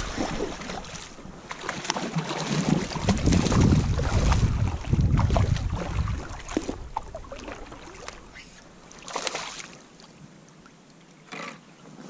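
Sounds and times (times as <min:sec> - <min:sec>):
water splashing around a kayak: 0:00.0 - 0:12.0.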